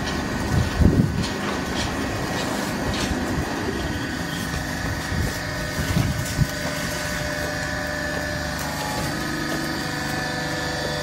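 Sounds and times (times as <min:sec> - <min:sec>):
hydraulic baling press humming: 0:00.0 - 0:11.0.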